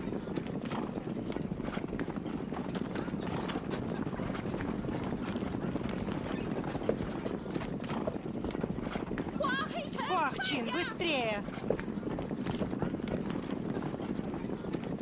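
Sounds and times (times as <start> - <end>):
horses galloping: 0.0 - 15.0.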